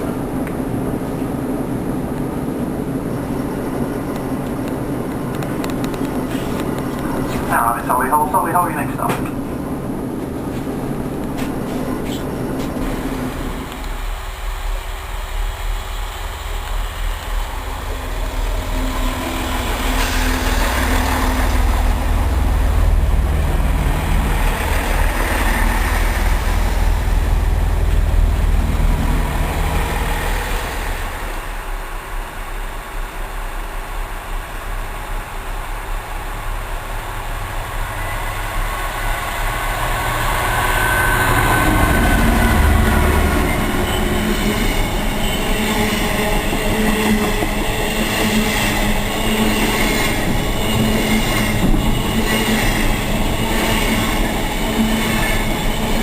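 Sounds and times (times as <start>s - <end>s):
diesel train engine rumble: 0.0s - 56.0s.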